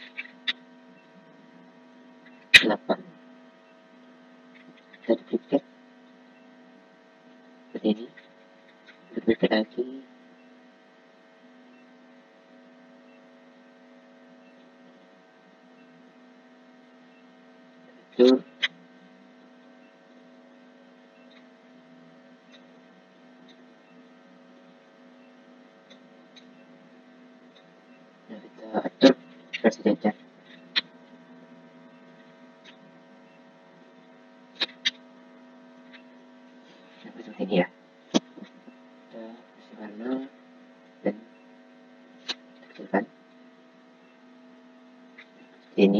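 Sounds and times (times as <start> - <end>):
faint electrical hum: 0.0 - 45.9.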